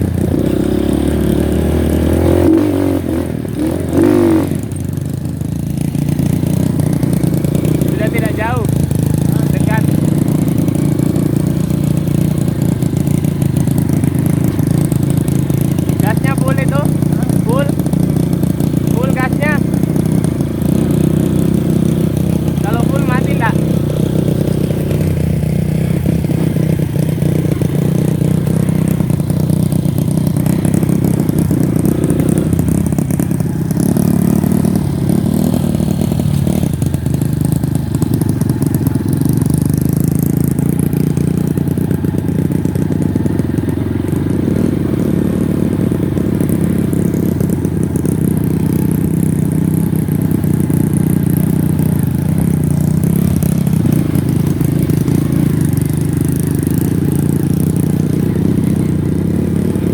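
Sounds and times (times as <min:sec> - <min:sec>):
motorcycle engine running: 0:00.0 - 0:59.9
clattering on rough track: 0:04.0 - 0:59.9.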